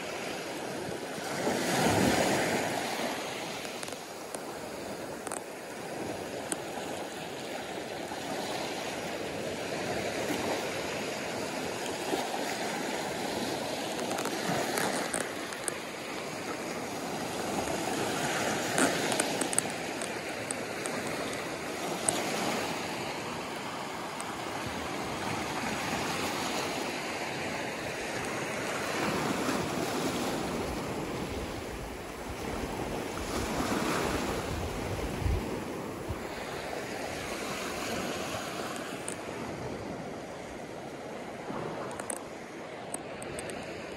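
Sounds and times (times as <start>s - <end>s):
waves washing on pebble beach: 0.0s - 43.9s.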